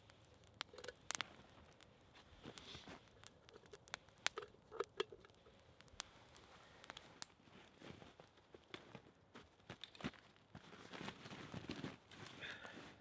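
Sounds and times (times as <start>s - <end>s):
campfire crackling and popping: 0.0s - 10.6s.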